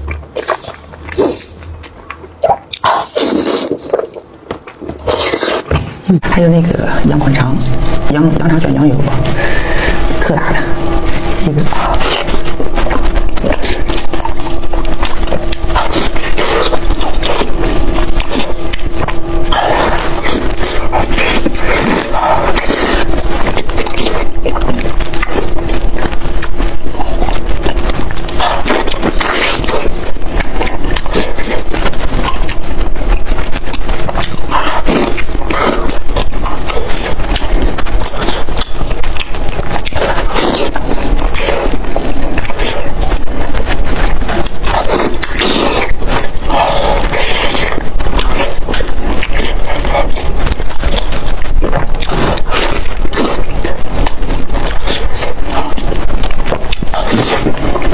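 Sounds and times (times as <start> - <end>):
close chewing with mouth clicks: 0.0 - 6.2, 8.8 - 57.9.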